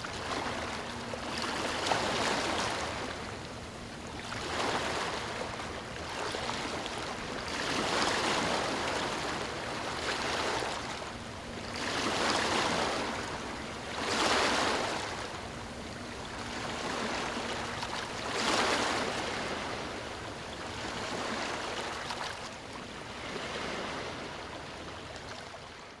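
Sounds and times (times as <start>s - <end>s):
ocean waves breaking on beach: 0.0s - 26.0s.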